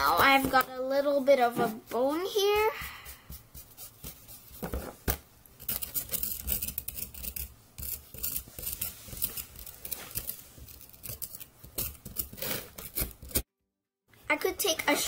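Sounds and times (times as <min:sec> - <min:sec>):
plastic tools scraping plaster: 0:00.0 - 0:13.5.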